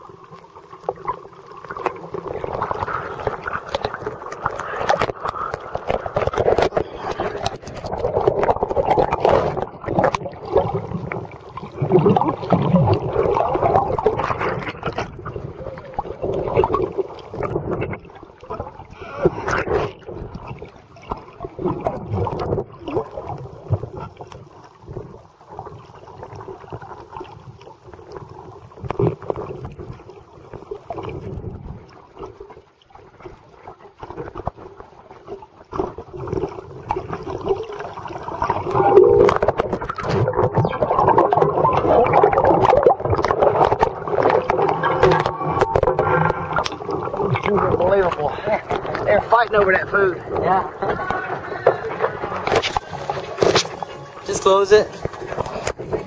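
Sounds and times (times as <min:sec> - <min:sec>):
underwater water sloshing: 0:00.0 - 0:56.0.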